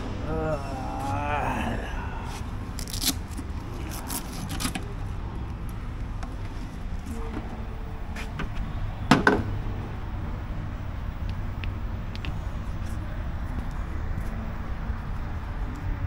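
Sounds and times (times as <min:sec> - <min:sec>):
low mechanical rumble: 0:00.0 - 0:16.0.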